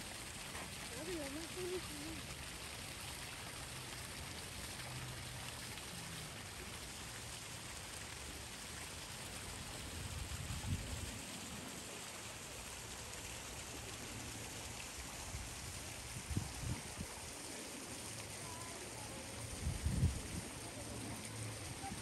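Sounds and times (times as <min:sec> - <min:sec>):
rushing splashing water: 0:00.0 - 0:22.0.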